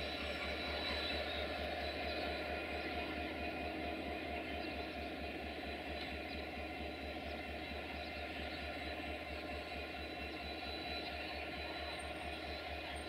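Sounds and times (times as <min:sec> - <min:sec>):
locomotive engine droning: 0:00.0 - 0:13.0.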